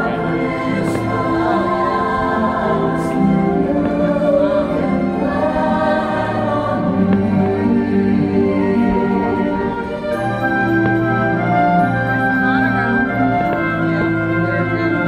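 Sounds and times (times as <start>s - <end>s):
choir singing held notes: 0.0s - 15.0s
musical backing: 0.0s - 15.0s.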